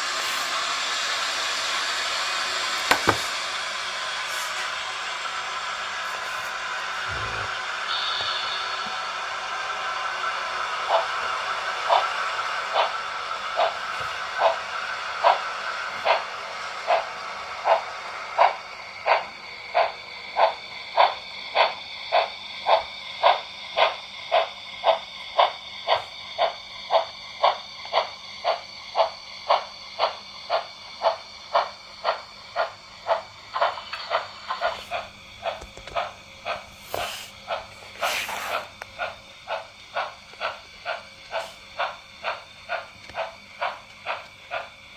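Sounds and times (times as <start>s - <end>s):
model locomotive chuffing: 0.0s - 44.9s
steam hiss: 0.0s - 44.9s.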